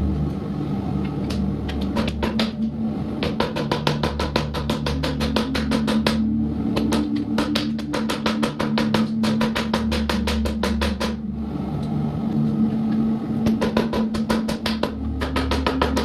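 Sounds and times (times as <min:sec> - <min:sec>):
sustained music tones: 0:00.0 - 0:16.0.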